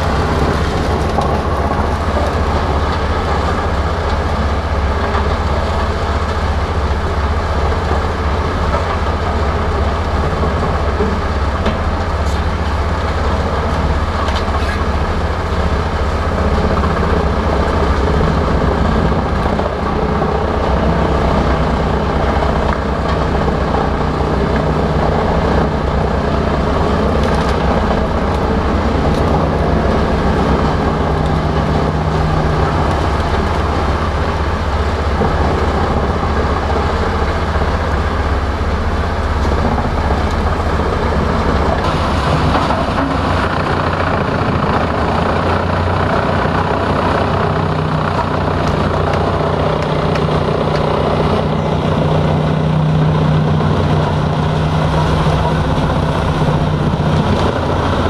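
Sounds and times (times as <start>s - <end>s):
wood chipper diesel engine: 0.0s - 58.0s.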